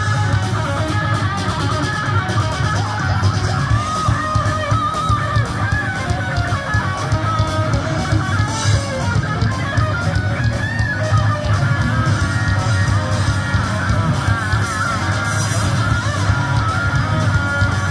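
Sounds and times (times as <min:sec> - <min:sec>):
electric guitar melody: 0:00.0 - 0:17.9
live rock band playing: 0:00.0 - 0:17.9
pounding drum kit: 0:00.0 - 0:17.9.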